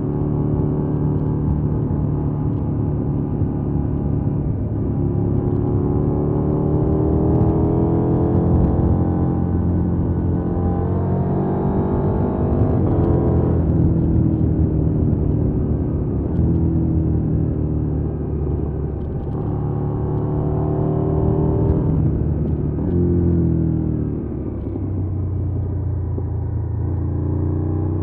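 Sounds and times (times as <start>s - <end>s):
motorcycle engine accelerating: 0.0s - 28.0s
wind noise: 0.0s - 28.0s.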